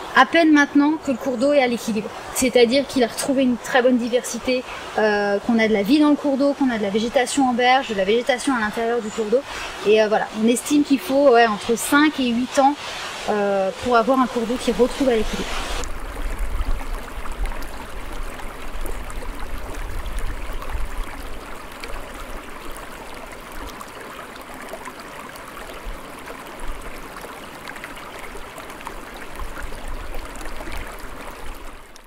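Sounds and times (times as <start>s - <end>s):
stream flowing: 0.0s - 32.0s.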